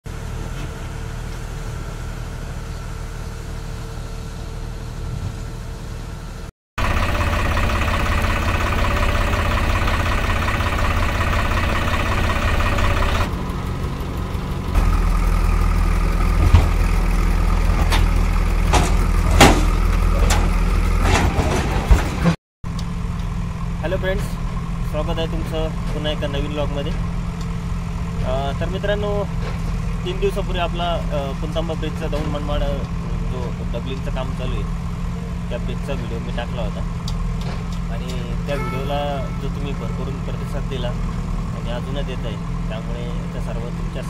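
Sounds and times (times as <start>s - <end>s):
heavy machinery diesel engines: 0.1s - 44.0s.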